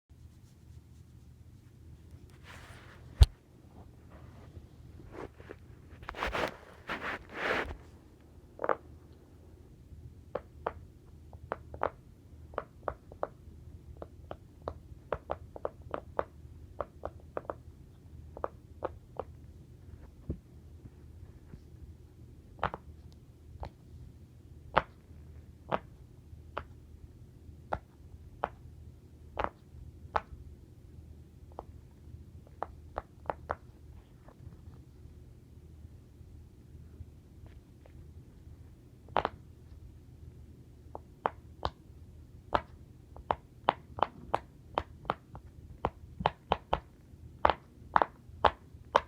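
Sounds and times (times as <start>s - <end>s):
low background hum: 0.1s - 49.0s.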